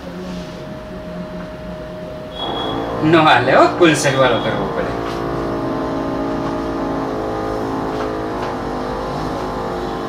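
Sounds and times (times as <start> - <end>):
steady motor drone: 0.0 - 10.0.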